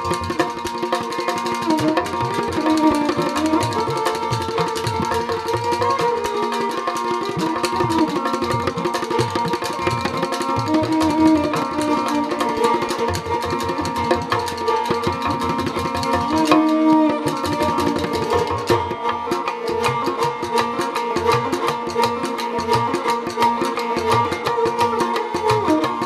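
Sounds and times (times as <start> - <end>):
bowed string melody: 0.0 - 26.0
hand drums: 0.0 - 26.0.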